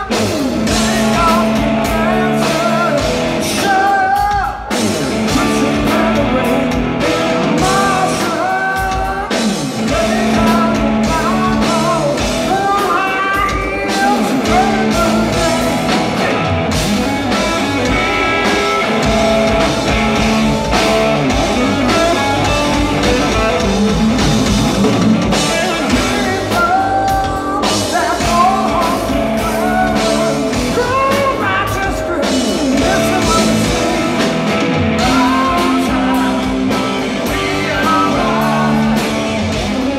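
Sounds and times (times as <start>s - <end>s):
man singing: 0.0s - 24.0s, 25.2s - 39.9s
bass guitar: 0.0s - 39.9s
drums: 0.0s - 39.9s
electric guitar: 0.0s - 39.9s.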